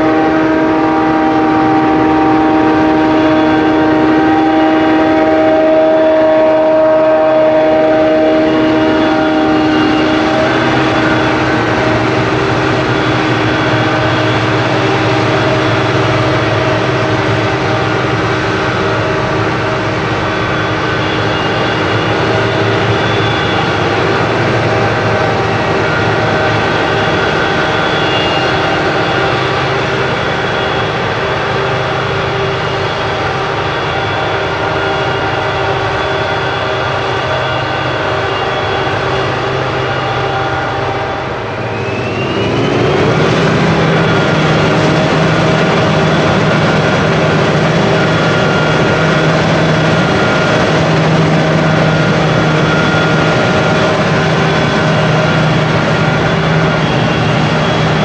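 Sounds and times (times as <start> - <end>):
deeper machinery drone: 0.0 - 58.0
harvesting machinery droning: 0.0 - 58.0.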